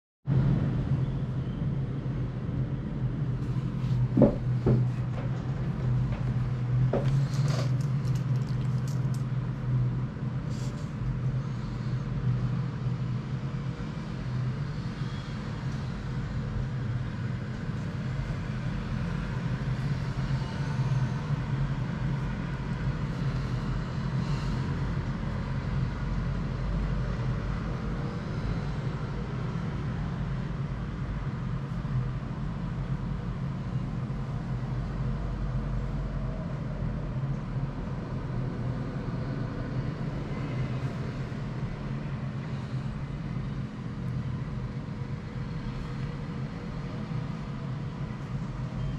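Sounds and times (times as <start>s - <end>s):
low rumble and hum: 0.2s - 48.9s.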